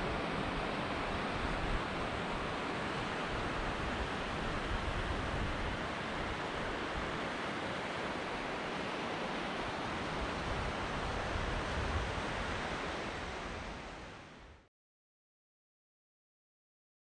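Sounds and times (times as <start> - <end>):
mountain creek rushing: 0.0 - 14.5.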